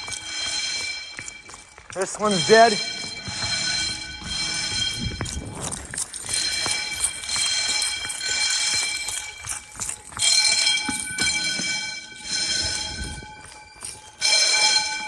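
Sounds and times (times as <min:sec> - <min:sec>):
fire alarm bells ringing: 0:00.0 - 0:15.0.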